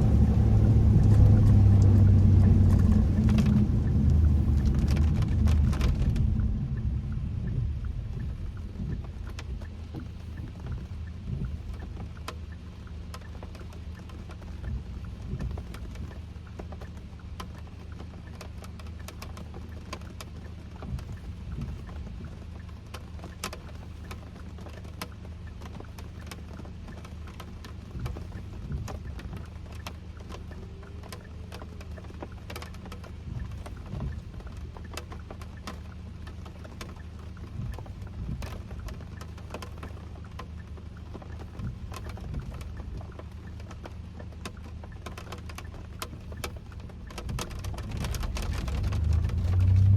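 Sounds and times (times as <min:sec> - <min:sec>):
raindrops ticking on car: 0:00.0 - 0:49.9
road and engine drone: 0:00.0 - 0:49.9.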